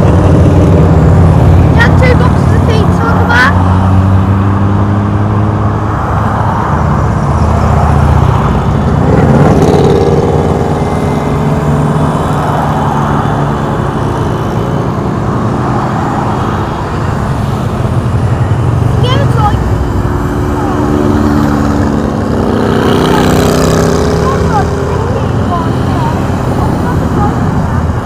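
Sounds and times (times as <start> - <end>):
motorcycles riding past: 0.0 - 28.0
road noise: 0.0 - 28.0.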